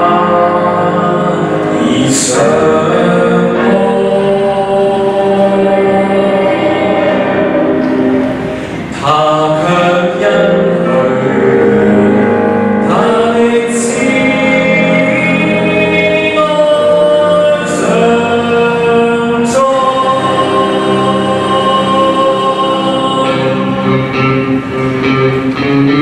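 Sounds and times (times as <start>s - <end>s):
man singing into a microphone: 0.0s - 8.0s, 8.8s - 24.4s
worship band playing hymns: 0.0s - 26.0s.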